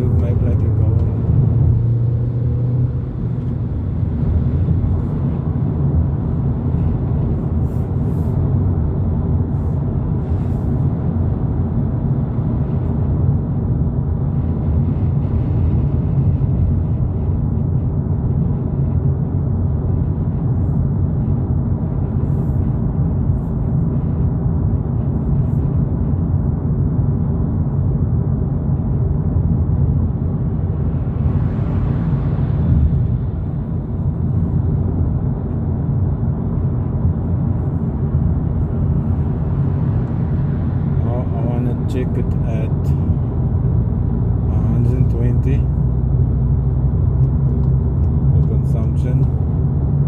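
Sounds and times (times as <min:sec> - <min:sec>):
car engine and tyre drone: 0:00.0 - 0:50.0.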